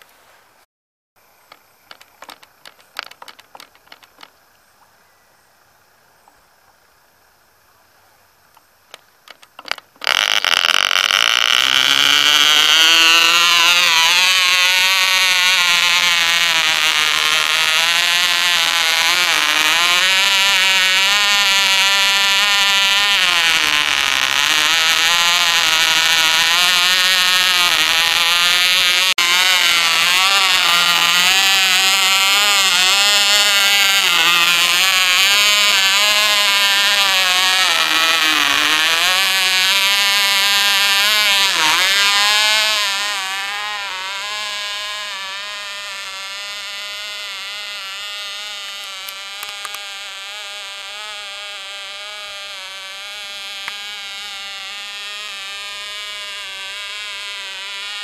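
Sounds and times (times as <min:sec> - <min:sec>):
model engine high buzz: 0:01.3 - 0:04.6, 0:06.2 - 0:58.0.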